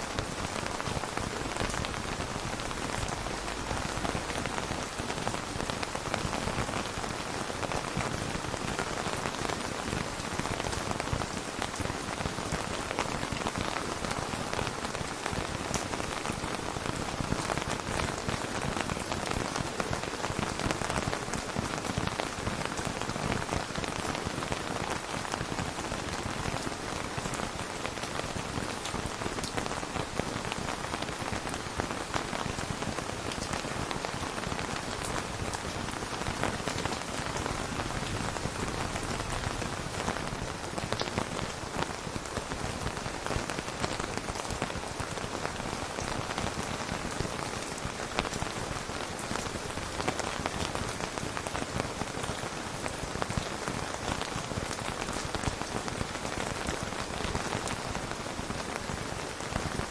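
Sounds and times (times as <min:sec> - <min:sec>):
raindrops striking a surface: 0:00.0 - 0:59.9
steady rain: 0:00.0 - 0:59.9.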